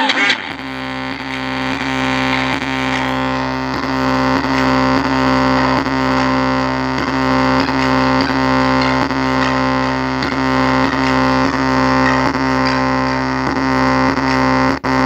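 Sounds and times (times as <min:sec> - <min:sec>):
distorted subwoofer bass: 0:00.0 - 0:15.0.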